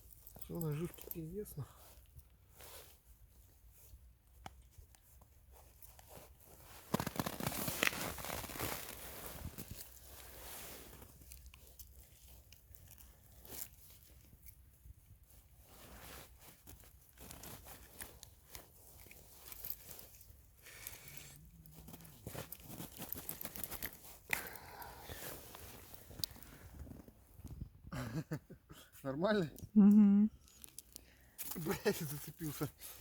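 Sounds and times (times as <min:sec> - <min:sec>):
rustling and crunching handling noises: 0:00.0 - 0:27.8, 0:30.4 - 0:33.0.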